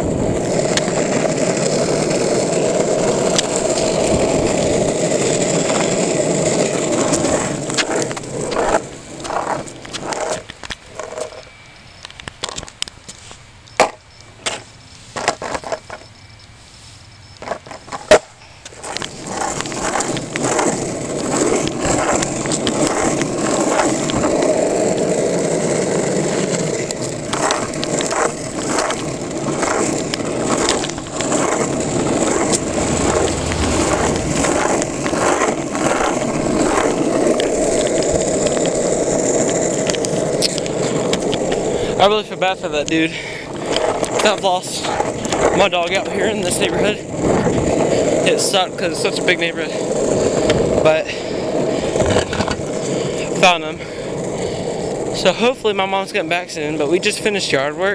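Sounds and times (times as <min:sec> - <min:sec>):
longboard wheels rolling on asphalt: 0:00.0 - 0:57.9.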